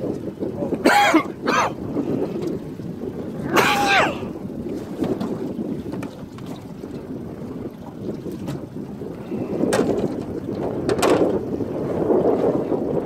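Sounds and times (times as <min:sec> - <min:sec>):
water lapping against hull: 0:00.0 - 0:13.0
wind on microphone: 0:00.0 - 0:13.0.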